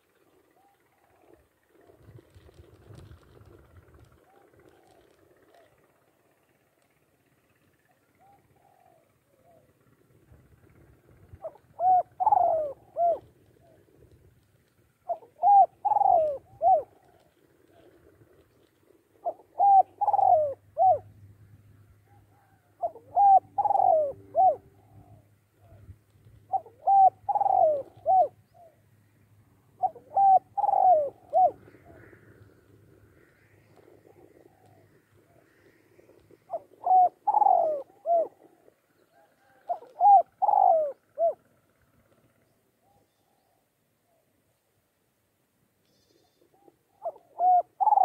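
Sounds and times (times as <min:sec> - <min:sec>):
dove cooing: 0:00.0 - 0:28.9, 0:29.6 - 0:44.4, 0:46.0 - 0:48.0.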